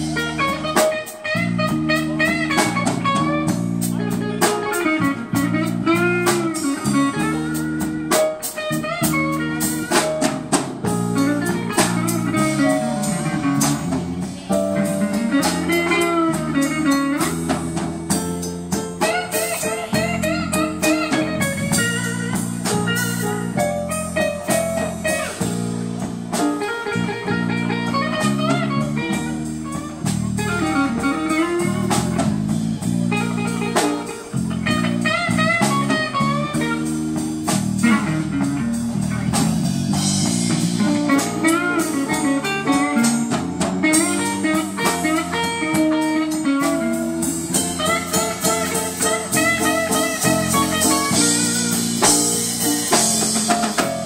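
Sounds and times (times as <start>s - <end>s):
drum kit: 0.0s - 54.0s
electric guitar lead: 0.0s - 54.0s.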